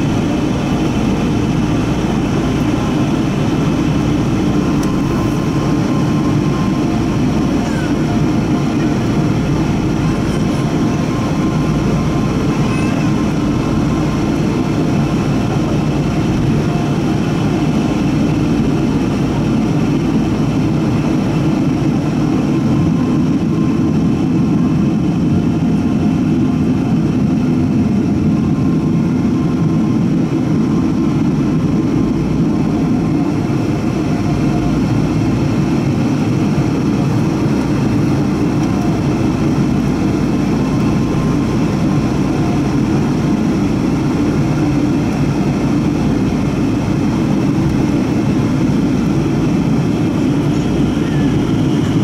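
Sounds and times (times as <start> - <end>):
airliner engines rumbling: 0.0 - 52.0.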